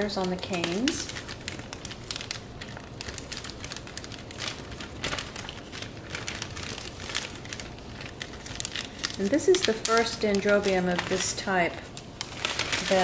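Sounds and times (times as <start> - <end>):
plastic sleeve crinkling: 0.0 - 13.0.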